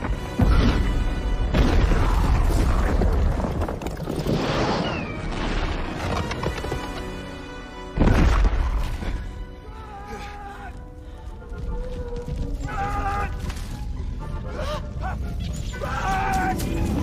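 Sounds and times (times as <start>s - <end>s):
film music score: 0.0s - 17.0s.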